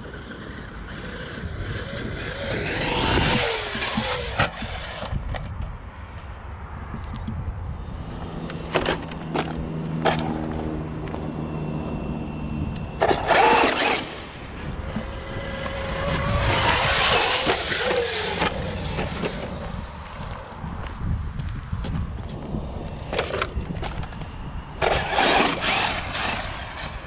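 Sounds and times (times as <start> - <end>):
electric motor whine: 0.0 - 5.5, 7.8 - 20.3, 22.1 - 27.0
rough tyre noise: 0.0 - 27.0.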